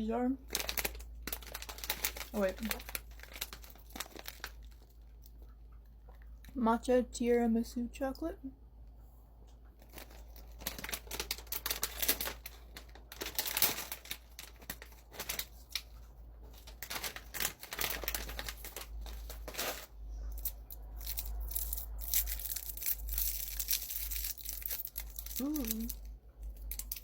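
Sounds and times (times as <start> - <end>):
plastic snack bag crinkling: 0.4 - 5.5, 9.8 - 27.0.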